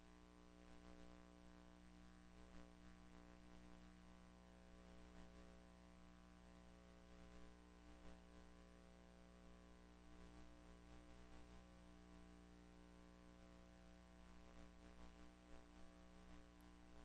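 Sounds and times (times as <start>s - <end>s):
faint electrical hum: 0.0s - 17.0s
tape hiss: 0.0s - 17.0s.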